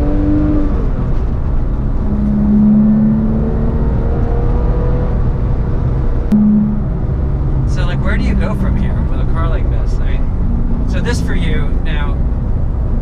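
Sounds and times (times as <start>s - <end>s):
road rumble: 0.0s - 13.0s.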